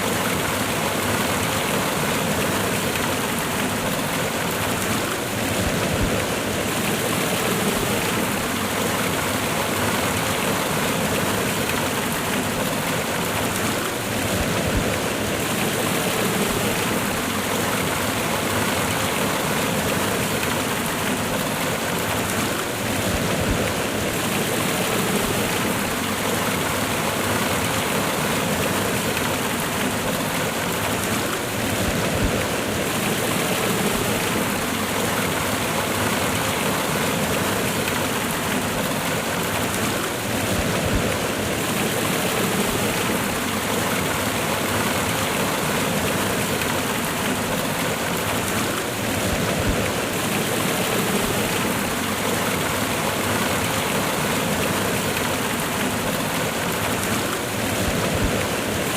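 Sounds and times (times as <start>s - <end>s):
waterfall rushing over rocks: 0.0s - 58.9s.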